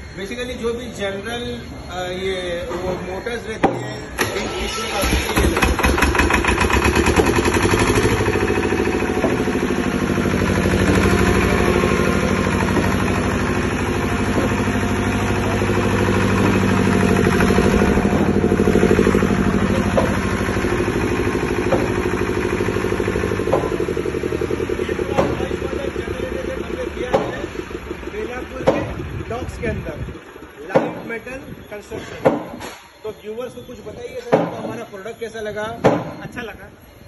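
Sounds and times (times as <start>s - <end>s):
diesel generator chugging: 0.0s - 36.4s.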